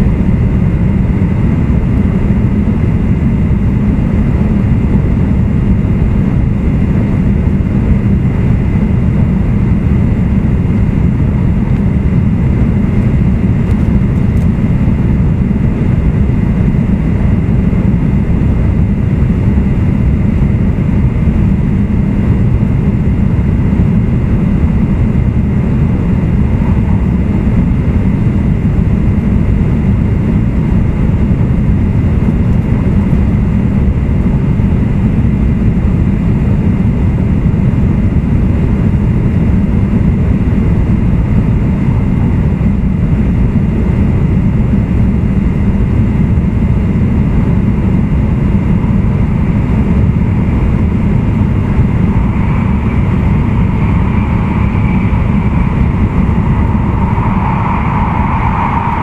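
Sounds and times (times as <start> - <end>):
faint steady whines: 0.0 - 59.0
train wheels rumbling on rail: 4.2 - 59.0.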